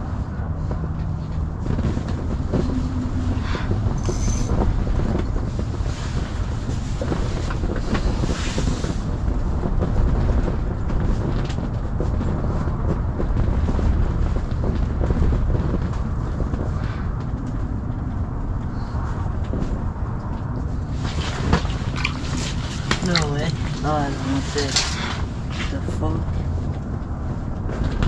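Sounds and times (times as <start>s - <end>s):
wind rumbling on microphone: 0.0s - 28.0s.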